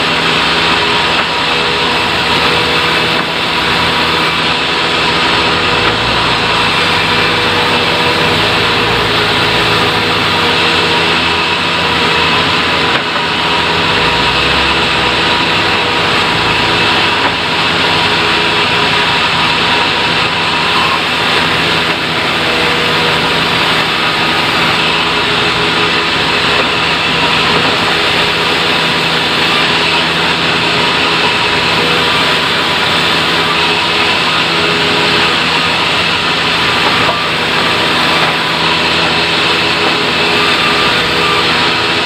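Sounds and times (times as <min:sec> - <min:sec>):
sawmill machinery running: 0:00.0 - 0:42.0.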